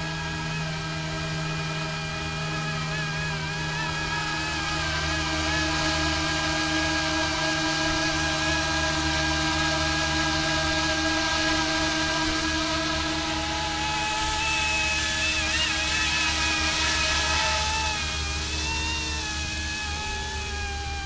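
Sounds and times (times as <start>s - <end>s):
low rotor hum: 0.0s - 21.0s
model helicopter motor whine: 0.0s - 21.0s.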